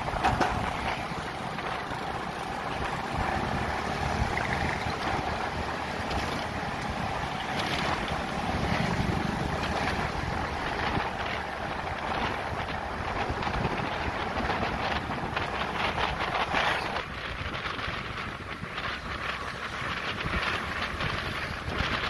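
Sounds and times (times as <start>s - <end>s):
motorbike engine: 0.0s - 22.0s
road noise: 0.0s - 22.0s
wind rushing over microphone: 0.0s - 22.0s.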